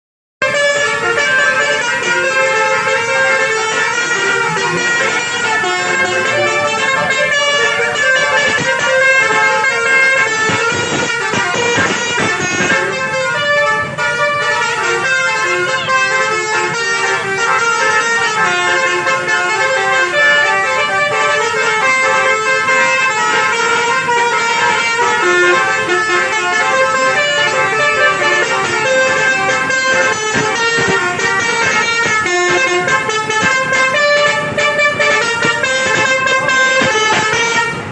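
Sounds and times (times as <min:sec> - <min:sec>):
musical air horns: 0:00.4 - 0:37.9.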